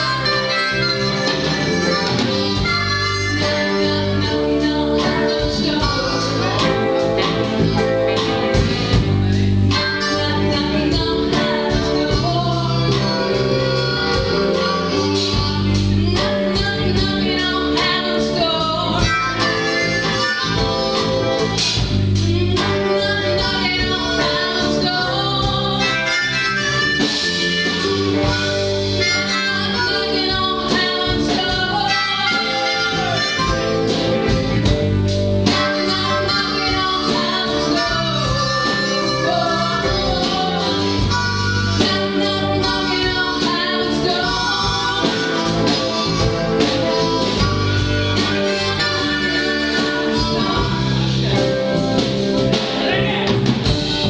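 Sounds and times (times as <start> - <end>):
harmonica melody with bent notes: 0.0 - 52.8
guitar: 0.0 - 54.0
low bass notes: 0.0 - 54.0.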